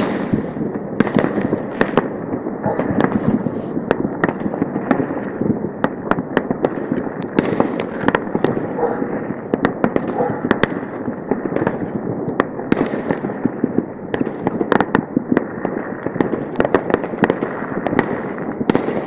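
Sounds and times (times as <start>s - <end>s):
firecracker cracks and pops: 0.0s - 19.0s
rumble of fireworks bangs: 0.0s - 19.0s.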